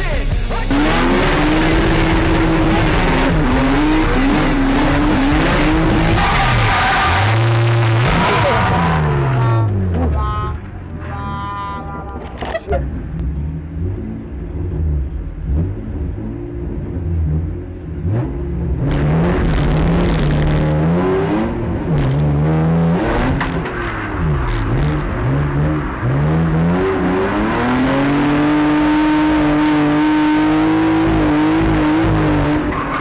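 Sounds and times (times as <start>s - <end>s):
car engine revving inside cabin: 0.7s - 32.8s.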